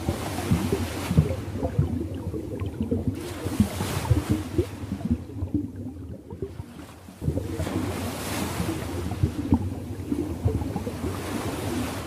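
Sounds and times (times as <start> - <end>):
ocean waves washing: 0.0 - 12.0.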